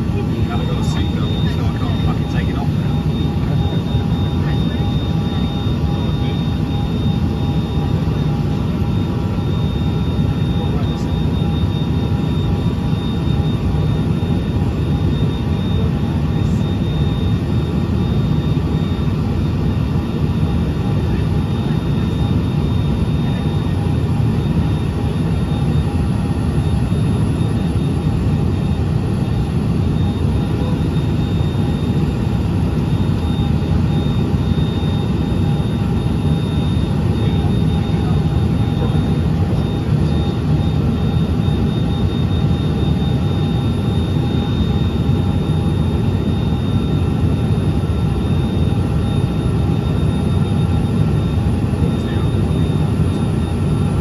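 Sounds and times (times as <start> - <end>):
high engine whine: 0.0 - 54.0
jet cabin rumble: 0.0 - 54.0.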